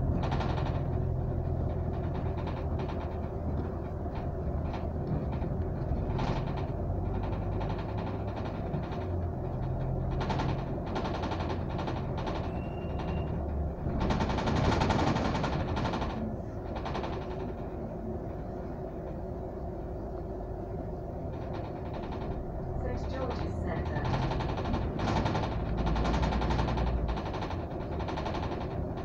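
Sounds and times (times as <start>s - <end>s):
cabin rattles: 0.0s - 17.9s, 21.3s - 29.0s
bus engine droning: 0.0s - 29.0s
road noise: 0.0s - 29.0s.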